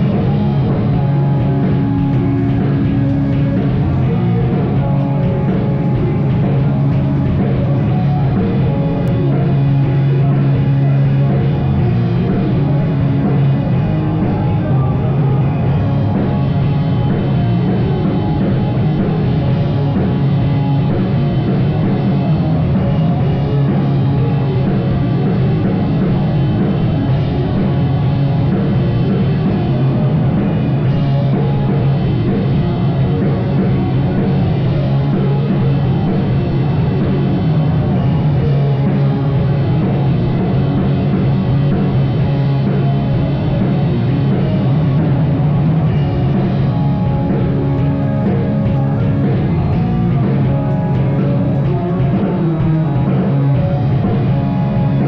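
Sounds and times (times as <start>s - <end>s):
distorted guitar: 0.0s - 55.0s
drums: 0.0s - 55.0s.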